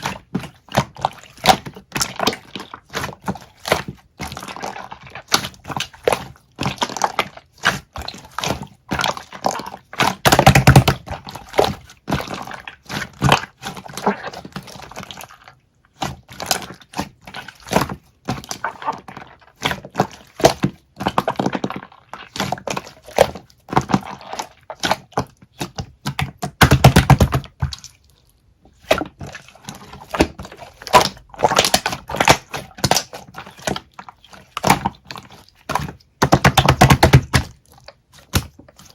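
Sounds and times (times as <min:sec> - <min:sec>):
slime squishing with wet clicks: 0:00.0 - 0:38.9.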